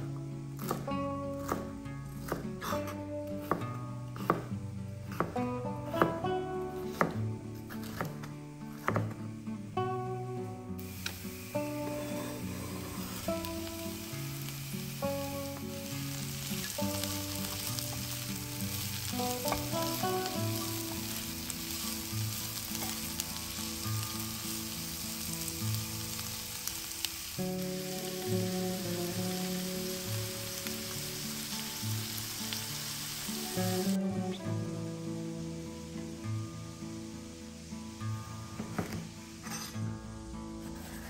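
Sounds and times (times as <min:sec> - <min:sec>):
vegetables sizzling in oil: 0:00.0 - 0:41.0.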